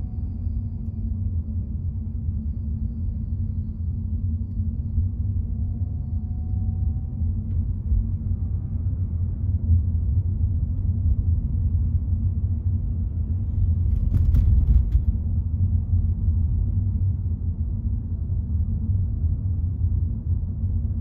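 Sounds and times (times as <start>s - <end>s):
car driving on road: 0.0s - 19.6s.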